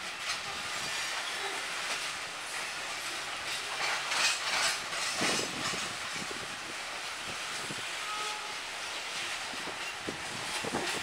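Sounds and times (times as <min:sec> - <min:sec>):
train clicks and clunks: 0:00.0 - 0:11.0
train wheels rushing on rail: 0:00.0 - 0:11.0.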